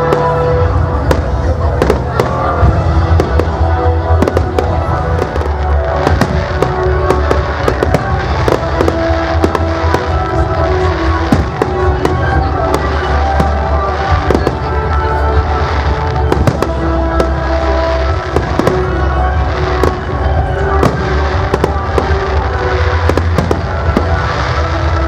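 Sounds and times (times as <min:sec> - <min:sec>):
fireworks banging and crackling: 0:00.0 - 0:25.0
music playing: 0:00.0 - 0:25.0.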